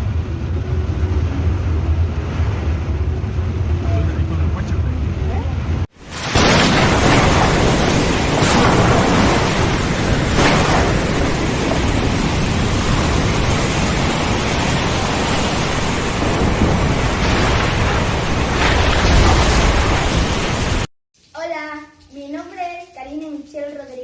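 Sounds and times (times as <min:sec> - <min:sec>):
heavy rain pouring: 0:00.0 - 0:20.9
thunder rumbling: 0:00.0 - 0:20.9.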